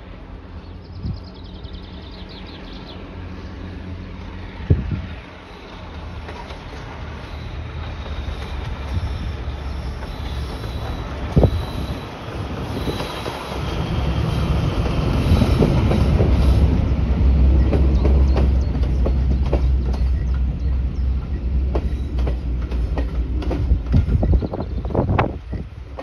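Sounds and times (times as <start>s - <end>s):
diesel locomotive engine drone: 0.0s - 26.0s
train coaches rattling past: 0.0s - 26.0s.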